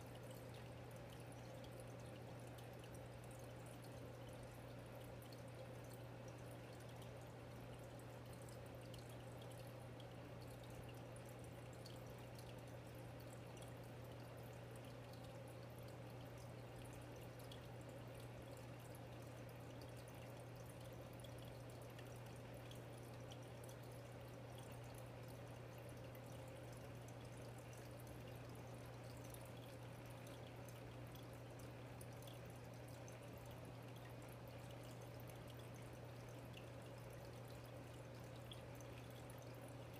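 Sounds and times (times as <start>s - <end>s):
aquarium pump hum: 0.0s - 39.9s
water trickling and dripping: 0.0s - 39.9s.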